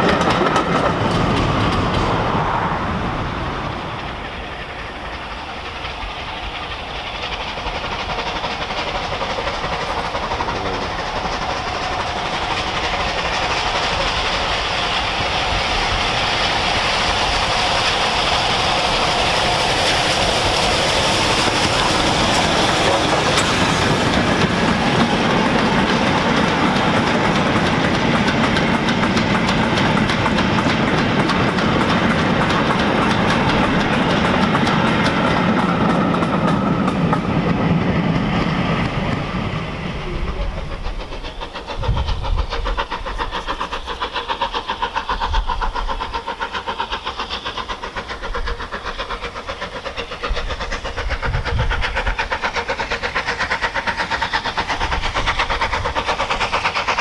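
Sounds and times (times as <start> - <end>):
distant steam locomotive: 0.0 - 57.0
train wheels clicking over rail joints: 0.0 - 57.0.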